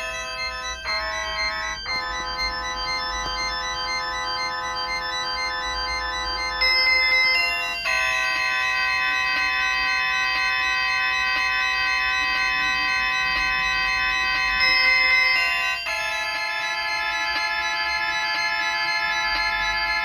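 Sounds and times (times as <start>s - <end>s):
organ-like ringtone chords: 0.0s - 20.0s.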